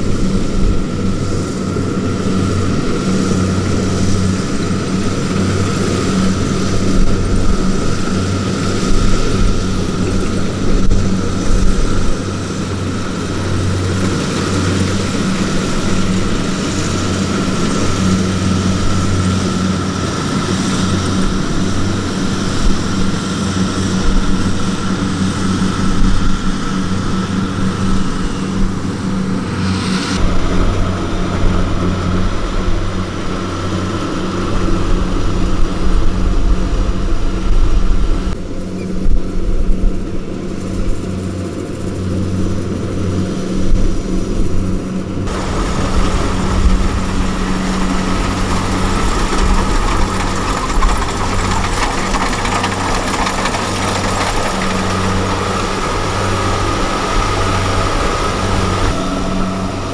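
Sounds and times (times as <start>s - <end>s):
diesel engine running: 0.0s - 38.8s, 40.6s - 59.9s
higher mechanical noise: 0.0s - 59.9s.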